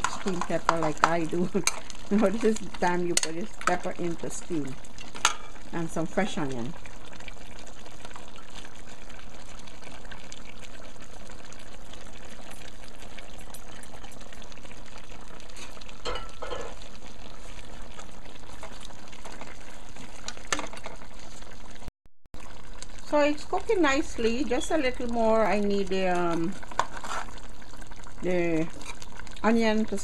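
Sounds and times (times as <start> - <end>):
curry simmering and bubbling: 0.0 - 30.0.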